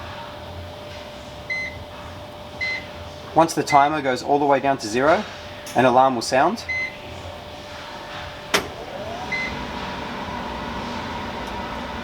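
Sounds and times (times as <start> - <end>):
oven fan whirring: 0.0 - 12.0.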